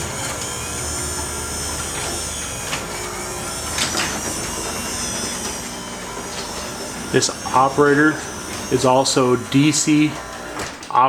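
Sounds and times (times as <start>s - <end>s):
garage door opener humming: 0.0s - 11.0s.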